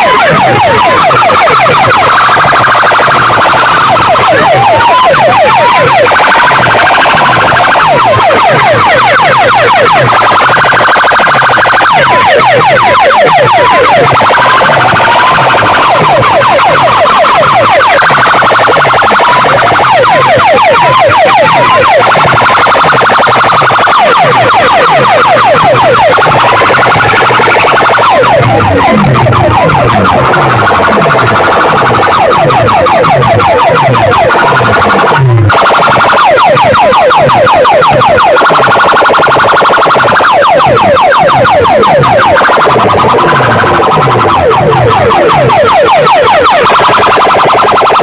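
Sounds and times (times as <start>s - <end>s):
loud electronic siren effect: 0.0s - 48.0s.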